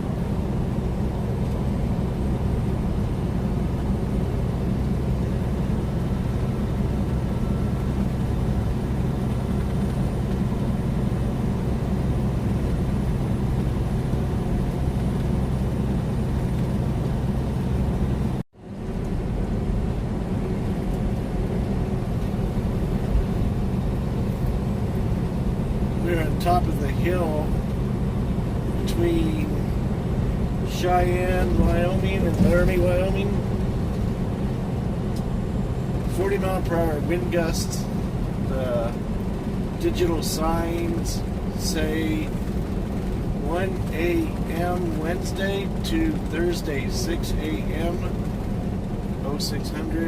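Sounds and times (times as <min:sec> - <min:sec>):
truck engine drone from cab: 0:00.0 - 0:50.0.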